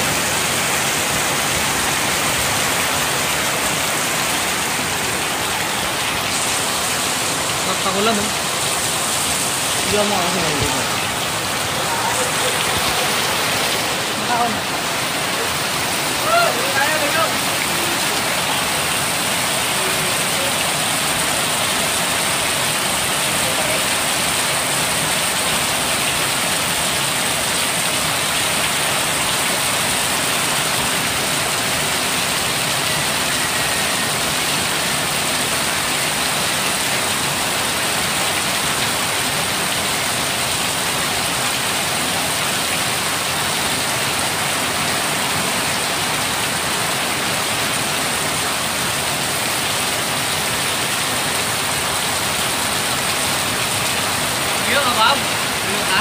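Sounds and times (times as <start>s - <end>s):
heavy rain pouring: 0.0s - 56.0s
water streaming off a roof: 0.0s - 56.0s.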